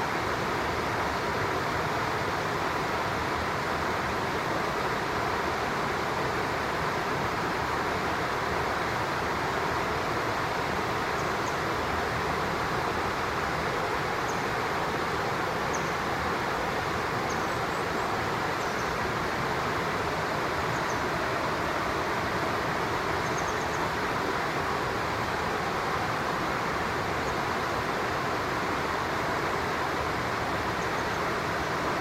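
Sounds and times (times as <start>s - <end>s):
stream water flowing: 0.0s - 32.0s.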